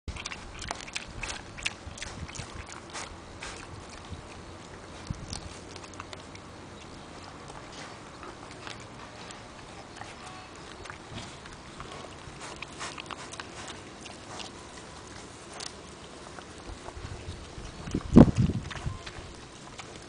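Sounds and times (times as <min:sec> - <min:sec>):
pig chewing grass: 0:00.1 - 0:20.0.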